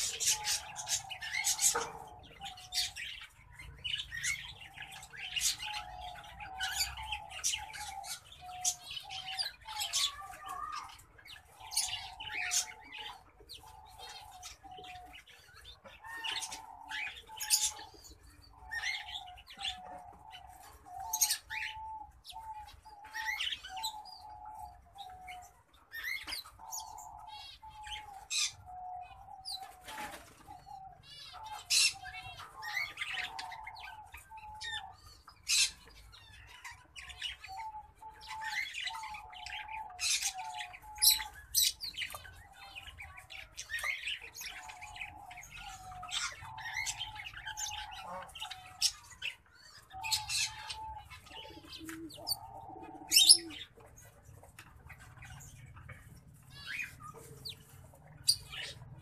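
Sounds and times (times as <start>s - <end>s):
finches chirping and singing: 0.0s - 54.0s, 54.9s - 59.0s.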